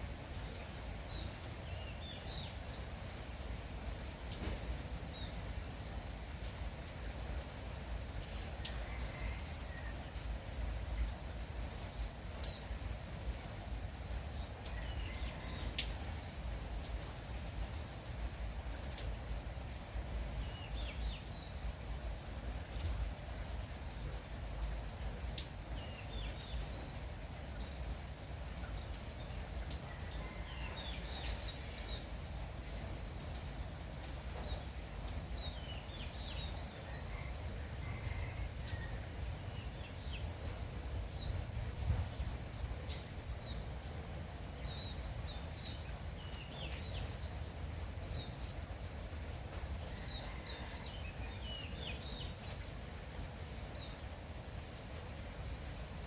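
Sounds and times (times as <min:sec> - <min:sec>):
light rain: 0:00.0 - 0:56.0
drip-like ticks: 0:00.1 - 0:56.0
small birds chirping: 0:08.0 - 0:56.0.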